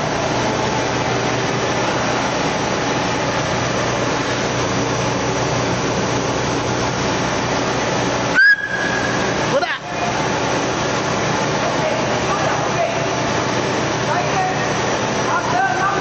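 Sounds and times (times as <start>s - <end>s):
paper machine running with low hum: 0.0s - 16.0s.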